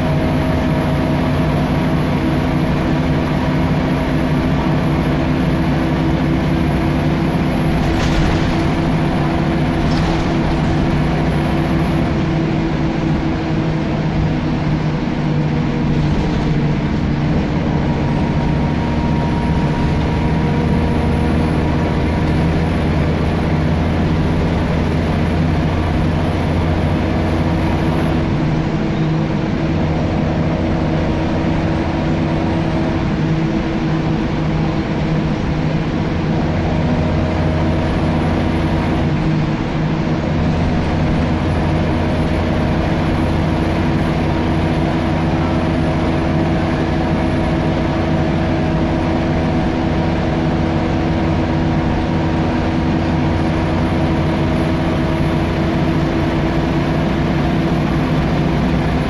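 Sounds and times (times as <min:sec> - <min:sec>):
bus diesel engine droning: 0:00.0 - 0:59.0
road noise: 0:00.0 - 0:59.0.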